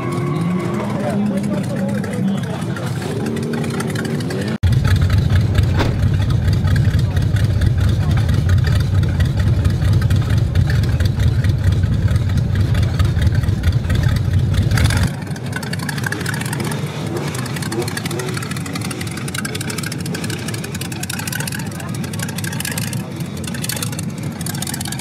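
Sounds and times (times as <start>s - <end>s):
crowd chatter: 0.0s - 25.0s
car engine idling deep: 1.0s - 25.0s.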